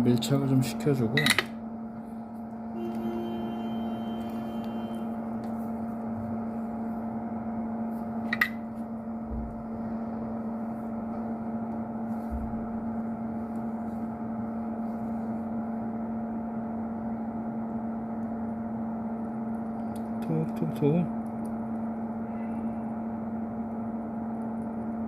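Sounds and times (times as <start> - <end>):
electrical hum with fan noise: 0.0 - 25.0.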